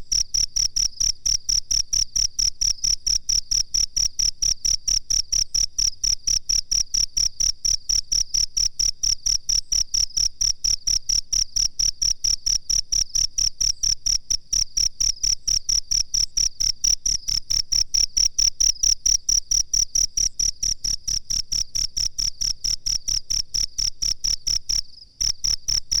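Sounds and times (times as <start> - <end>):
cricket chirping: 0.1 - 26.0.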